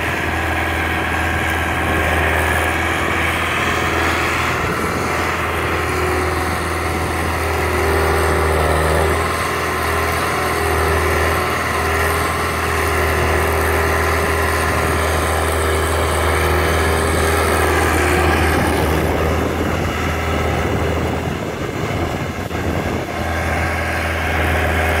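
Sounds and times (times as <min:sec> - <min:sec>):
loader engine running: 0:00.0 - 0:25.0.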